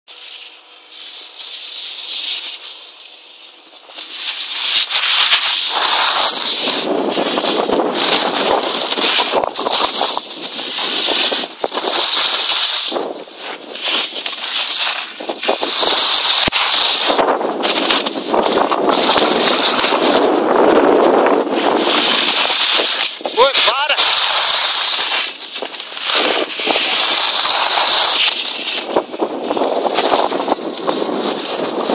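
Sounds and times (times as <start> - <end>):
snowboard carving over snow: 0.1 - 31.9.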